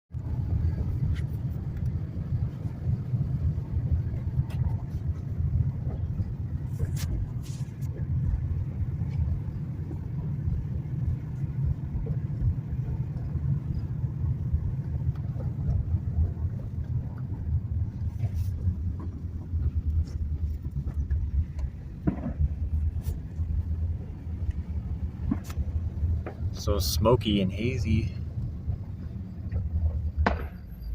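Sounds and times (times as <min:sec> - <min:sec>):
car driving low rumble: 0:00.1 - 0:30.9.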